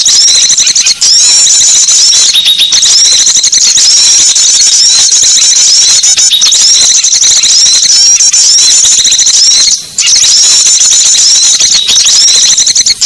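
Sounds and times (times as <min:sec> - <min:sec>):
small songbirds twittering: 0:00.0 - 0:12.9.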